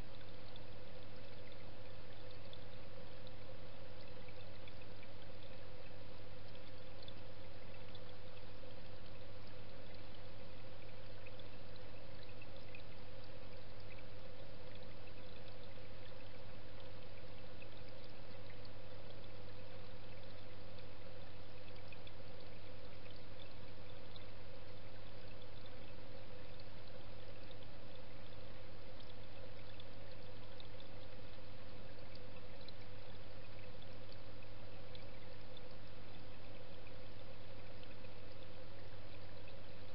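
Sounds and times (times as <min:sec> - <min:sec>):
faint ticks: 0:00.0 - 0:39.9.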